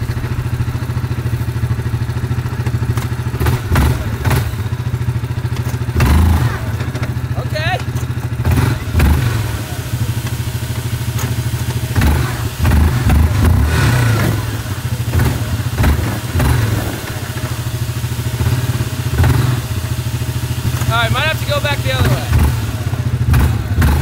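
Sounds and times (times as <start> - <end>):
quad engine revving: 0.0 - 24.0.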